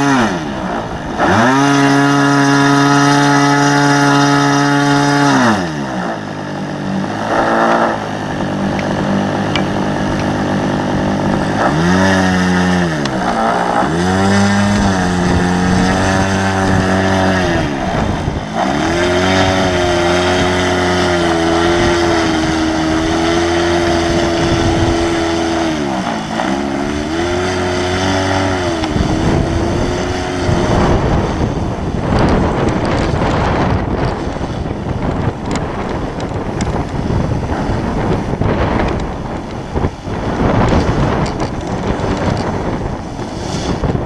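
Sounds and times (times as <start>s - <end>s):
model airplane engine: 0.0s - 44.0s
wind noise on microphone: 0.0s - 44.0s.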